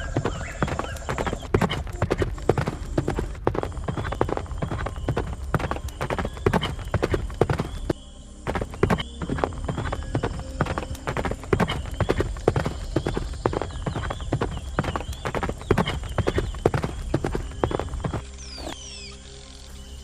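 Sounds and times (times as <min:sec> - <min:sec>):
horse hooves clip-clopping: 0:00.0 - 0:18.8.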